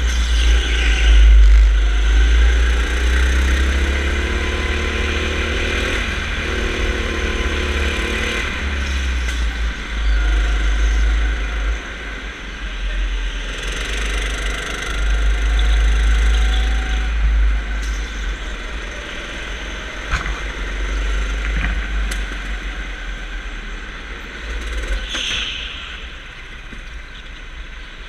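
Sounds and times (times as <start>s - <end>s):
go-kart engine rumbling: 0.0s - 28.0s.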